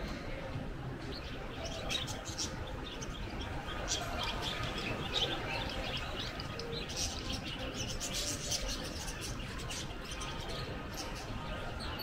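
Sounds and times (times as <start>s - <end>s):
small birds chirping: 0.9s - 12.0s.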